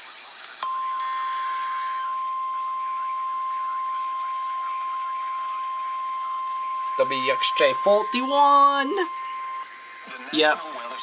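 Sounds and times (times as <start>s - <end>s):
steady alarm tone: 0.6s - 11.0s.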